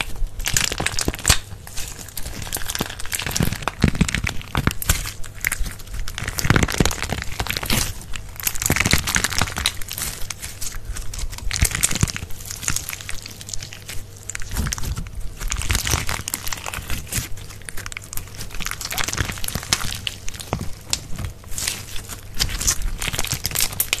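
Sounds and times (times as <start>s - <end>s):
slime squeezed by hand: 0.0s - 24.0s.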